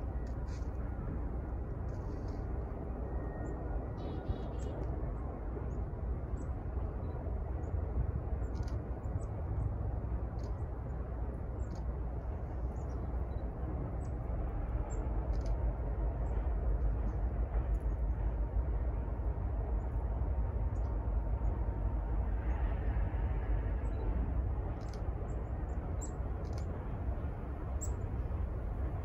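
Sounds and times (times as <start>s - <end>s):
distant diesel locomotive rumble: 0.0s - 29.0s.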